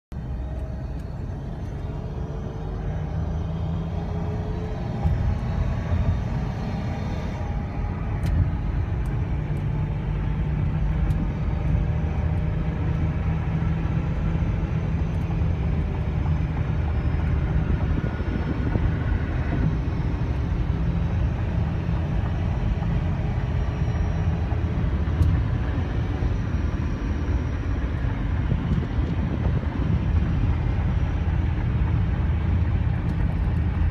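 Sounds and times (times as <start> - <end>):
car cabin road rumble: 0.1 - 33.9
faint engine whine: 0.1 - 33.9.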